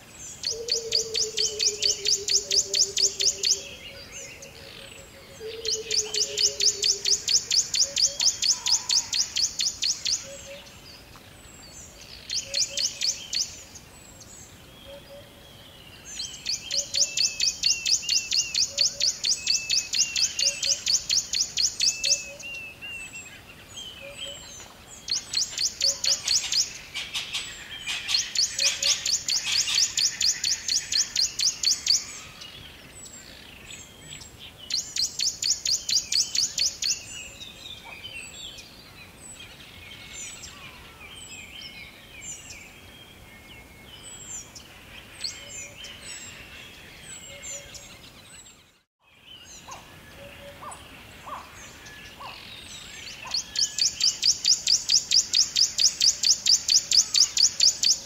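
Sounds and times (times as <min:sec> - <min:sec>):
forest birds chirping: 0:00.0 - 0:58.0.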